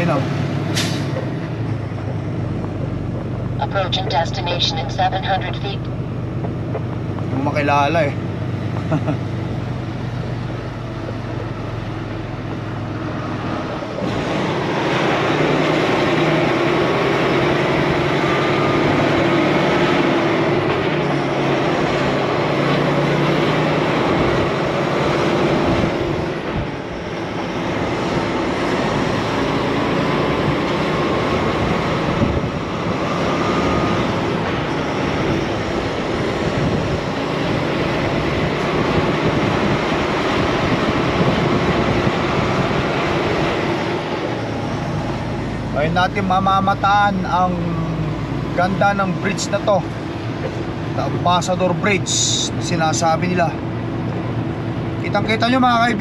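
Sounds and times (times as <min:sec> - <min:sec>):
road noise: 0:00.0 - 0:56.0
truck engine drone: 0:00.0 - 0:56.0.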